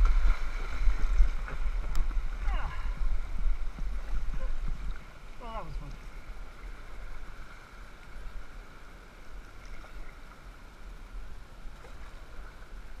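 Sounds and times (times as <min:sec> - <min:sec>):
paddle splashing: 0:00.0 - 0:13.0
river water rushing and lapping: 0:00.0 - 0:13.0
steady low rumble: 0:00.0 - 0:13.0.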